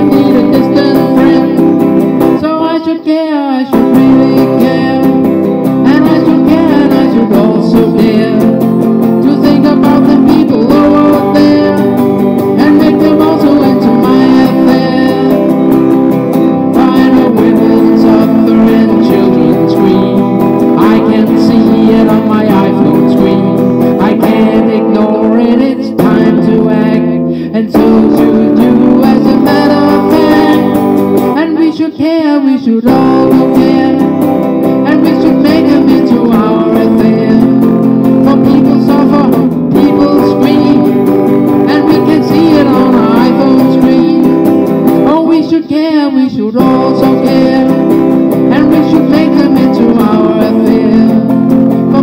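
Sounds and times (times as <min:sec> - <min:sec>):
electric guitar strumming: 0:00.0 - 0:52.0
man singing: 0:00.0 - 0:52.0.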